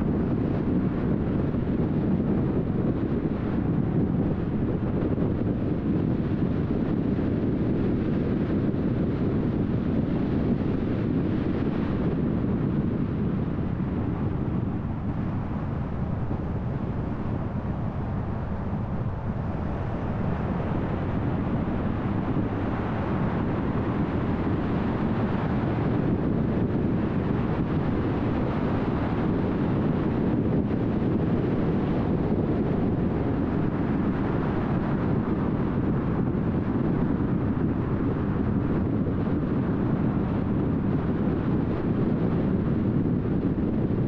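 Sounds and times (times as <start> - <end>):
wind rush: 0.0 - 44.0.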